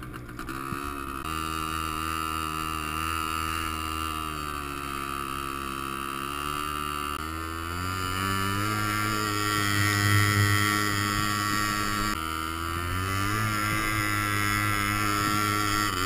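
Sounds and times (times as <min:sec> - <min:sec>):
quad bike engine under load: 0:00.0 - 0:16.0.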